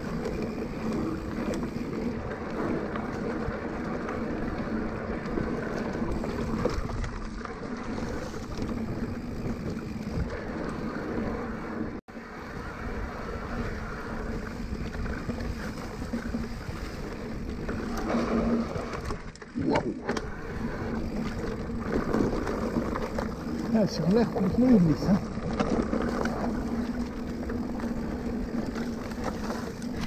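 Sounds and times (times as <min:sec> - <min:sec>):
tyres rolling over dirt trail: 0:00.0 - 0:30.0.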